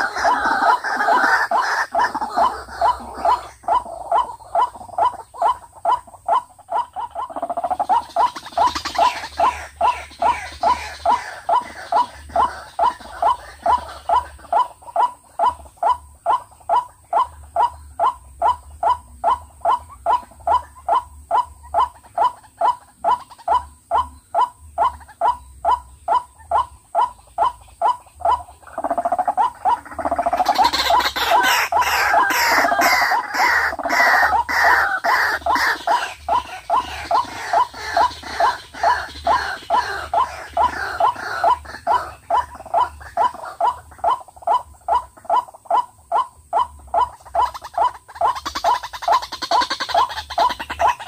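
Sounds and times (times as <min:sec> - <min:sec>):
waterhen calling: 0:00.0 - 0:51.0.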